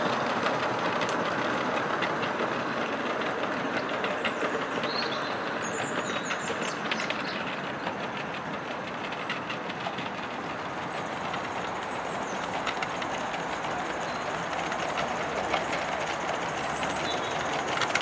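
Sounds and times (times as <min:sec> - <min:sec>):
steam locomotive chuffing: 0:00.0 - 0:18.0
wagons clicking over track: 0:00.0 - 0:18.0.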